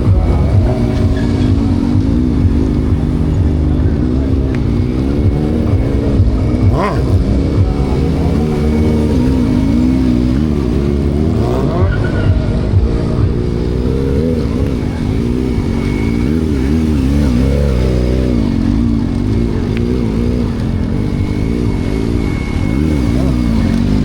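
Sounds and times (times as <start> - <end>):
car engine revving: 0.0 - 24.0
thin high whine: 0.0 - 24.0.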